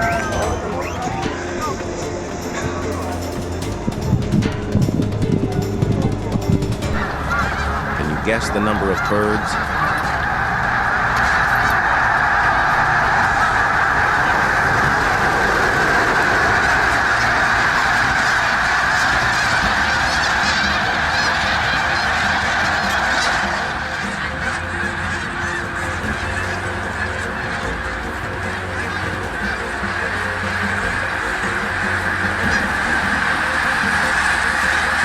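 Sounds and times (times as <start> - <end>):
flock of birds calling: 0.0 - 35.0.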